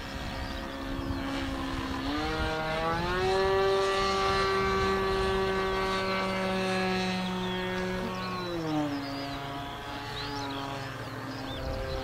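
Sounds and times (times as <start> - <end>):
model plane engine buzzing: 0.0 - 12.0.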